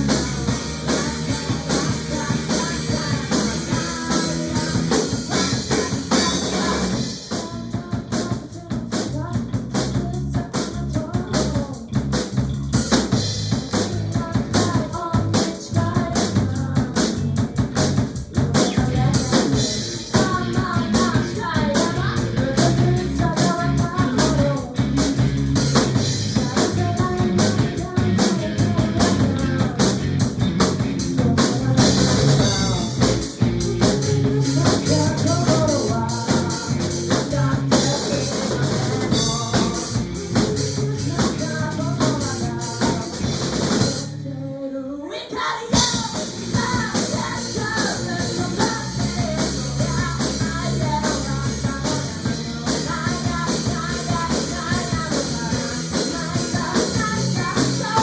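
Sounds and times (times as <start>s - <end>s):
drum kit beat: 0.0s - 44.2s, 45.6s - 58.0s.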